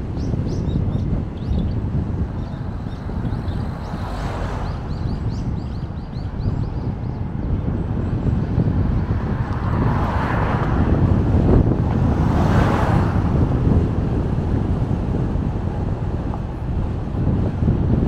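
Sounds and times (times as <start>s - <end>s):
car road rumble and wind: 0.0s - 18.0s.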